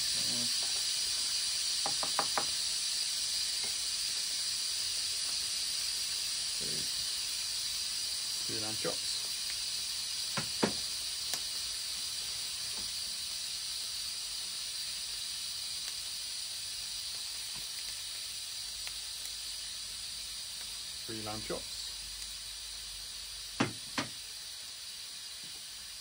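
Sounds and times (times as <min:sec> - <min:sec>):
steam hissing from valve: 0:00.0 - 0:26.0.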